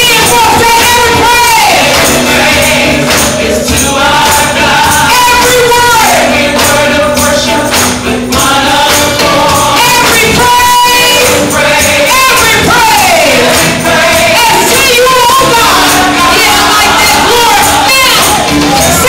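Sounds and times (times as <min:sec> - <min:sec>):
tambourine shaken: 0:00.0 - 0:19.0
voices singing gospel music: 0:00.0 - 0:19.0.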